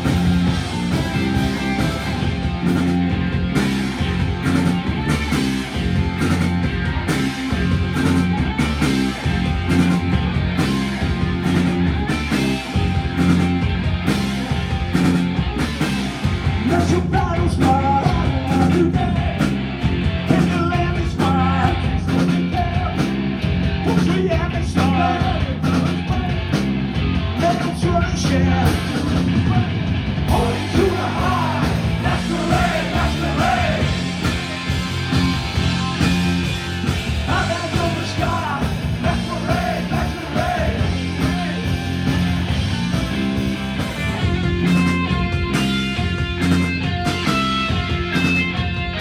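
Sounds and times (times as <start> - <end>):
punk rock band playing: 0.0 - 49.0.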